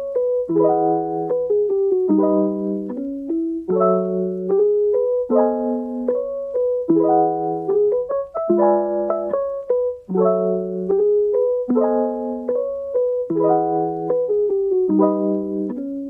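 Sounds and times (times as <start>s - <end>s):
mellow piano chords: 0.0s - 16.0s.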